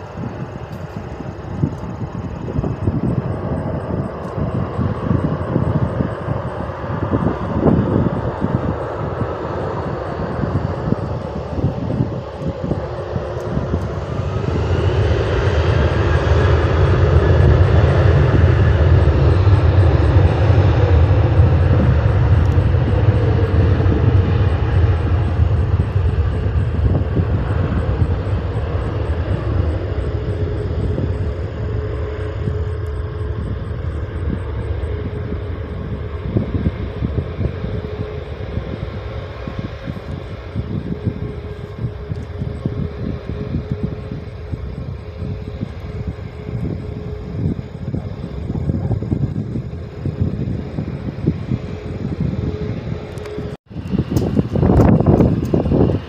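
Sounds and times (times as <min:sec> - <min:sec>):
airliner engine noise: 0:00.0 - 0:56.0.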